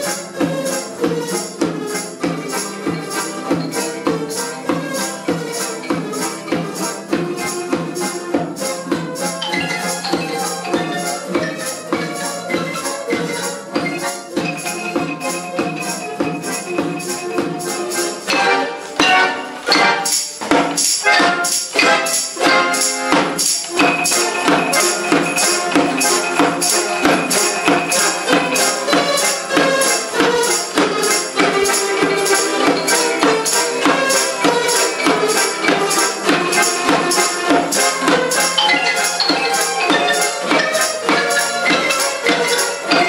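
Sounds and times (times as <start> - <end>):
folk ensemble playing lively tune: 0.0 - 43.0.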